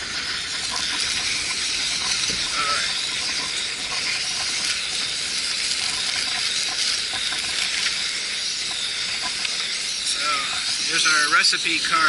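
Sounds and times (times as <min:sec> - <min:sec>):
camp stove burner hissing: 0:00.0 - 0:12.0.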